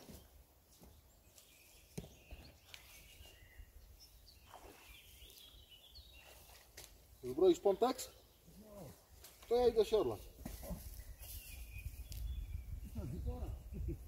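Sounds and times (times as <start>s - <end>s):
distant bird chirps: 0.0s - 13.9s.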